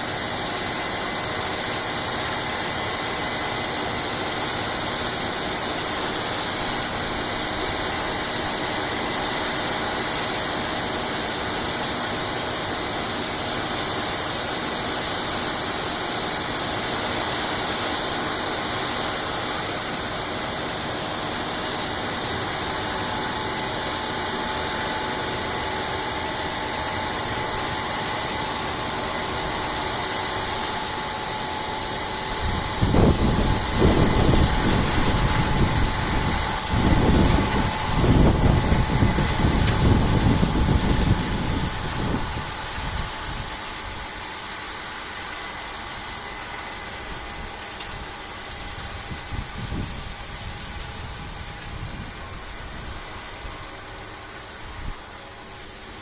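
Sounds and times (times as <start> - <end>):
machinery drone with high whine: 0.0 - 56.0.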